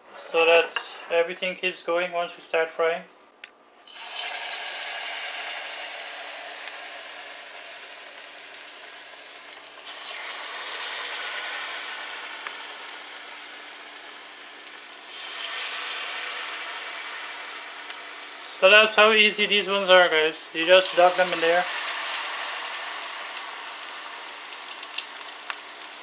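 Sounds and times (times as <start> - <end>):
food sizzling in deep fryer oil: 3.8 - 26.0.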